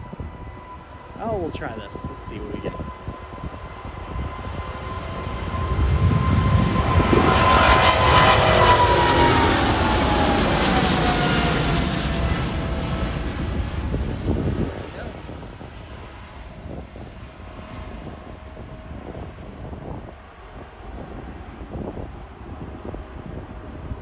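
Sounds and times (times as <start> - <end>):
engine whine sliding down: 0.0 - 24.0
jet engines passing: 0.0 - 24.0.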